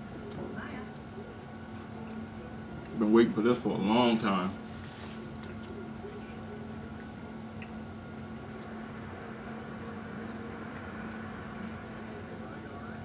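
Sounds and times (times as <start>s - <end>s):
chewing food: 0.0s - 3.6s, 4.2s - 13.0s
steady low hum: 0.0s - 13.0s.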